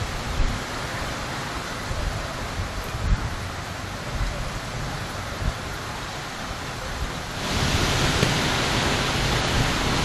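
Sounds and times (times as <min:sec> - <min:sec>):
heavy rain pouring: 0:00.0 - 0:10.0
wind buffeting microphone: 0:00.0 - 0:10.0.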